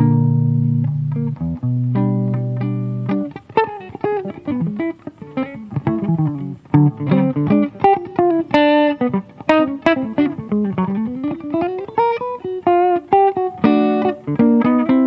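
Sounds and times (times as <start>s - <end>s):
solo acoustic guitar: 0.0s - 15.0s.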